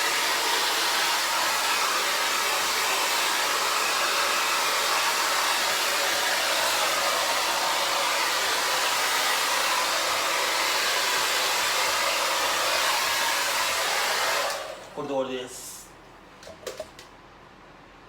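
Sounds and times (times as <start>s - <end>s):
hair dryer blowing: 0.0s - 15.3s.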